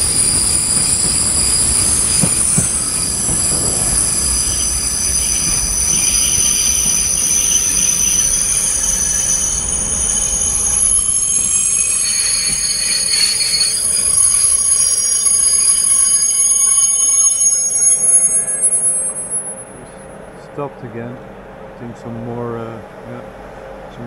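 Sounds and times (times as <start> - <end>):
train wheels squealing on rails: 0.0 - 20.4
train running rumble: 0.0 - 24.0.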